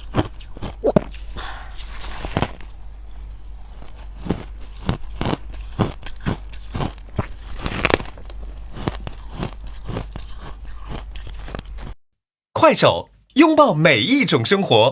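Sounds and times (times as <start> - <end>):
frost being bitten and chewed: 0.0 - 12.0.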